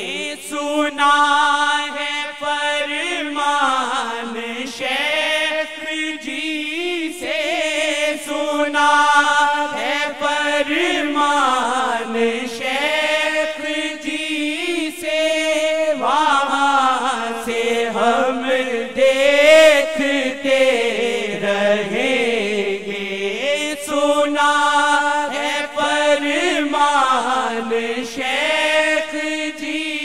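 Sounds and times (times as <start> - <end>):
voices chanting: 1.8 - 30.0.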